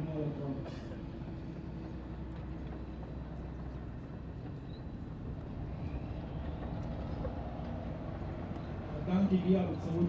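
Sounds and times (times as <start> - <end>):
diesel engines droning: 0.0 - 10.0.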